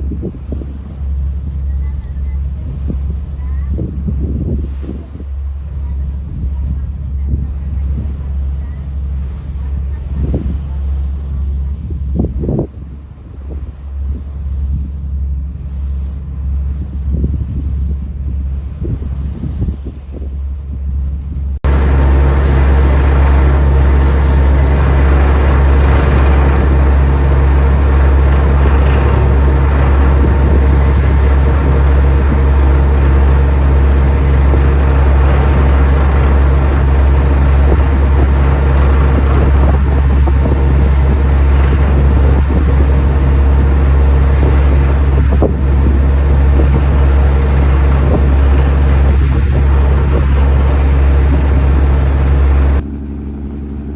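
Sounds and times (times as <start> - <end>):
wind on the microphone: 0.0 - 52.9
large engine deep hum: 0.0 - 53.9.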